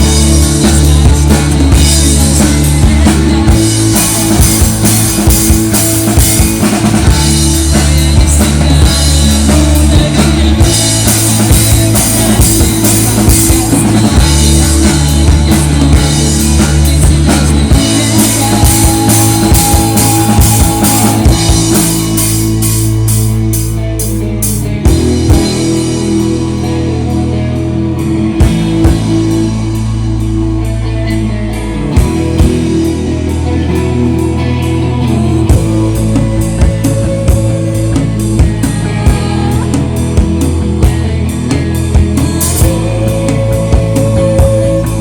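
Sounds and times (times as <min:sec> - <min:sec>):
rock band playing instrumental: 0:00.0 - 0:45.0.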